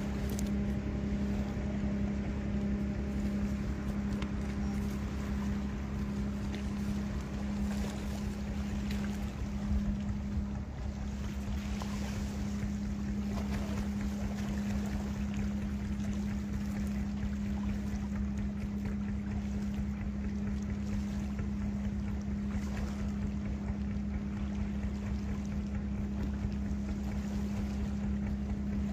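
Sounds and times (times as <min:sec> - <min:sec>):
low motor hum: 0:00.0 - 0:28.9.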